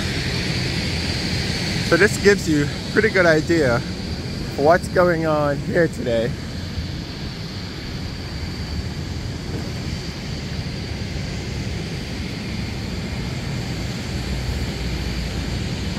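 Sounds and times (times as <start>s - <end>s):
low airfield rumble: 0.0s - 15.9s.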